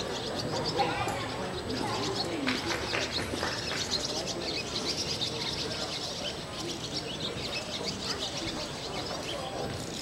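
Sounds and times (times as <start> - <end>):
faint murmur of voices: 0.0 - 10.0
small birds chirping and twittering: 0.0 - 10.0.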